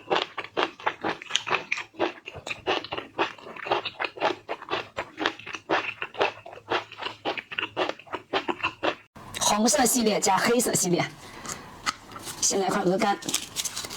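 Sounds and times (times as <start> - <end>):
person chewing food: 0.0 - 9.5, 11.1 - 13.9.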